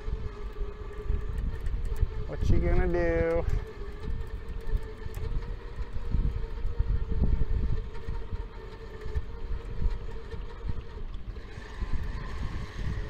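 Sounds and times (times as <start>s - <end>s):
winch whining: 0.0s - 13.0s.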